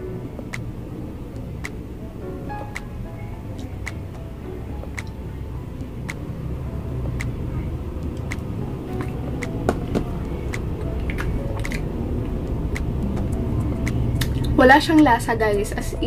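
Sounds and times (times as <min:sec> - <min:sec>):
faint ticking: 0:00.0 - 0:16.0
low background rumble: 0:00.0 - 0:16.0.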